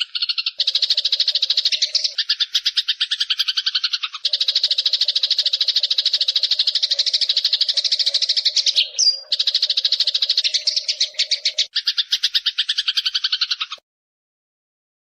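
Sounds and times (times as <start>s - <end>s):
sparrow chirping: 0.0s - 13.8s.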